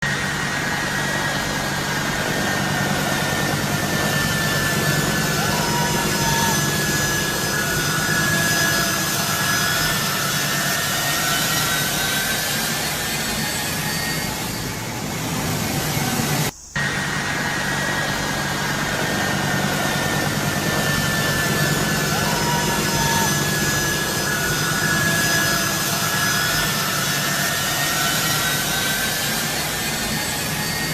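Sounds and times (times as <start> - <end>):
jet engines whining: 0.0 - 30.9.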